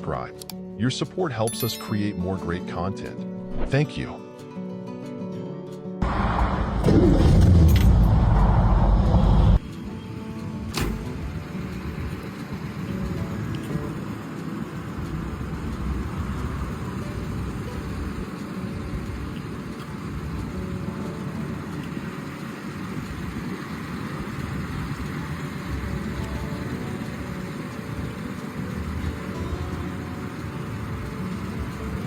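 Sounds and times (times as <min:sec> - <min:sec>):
car engine running: 0:06.0 - 0:32.0.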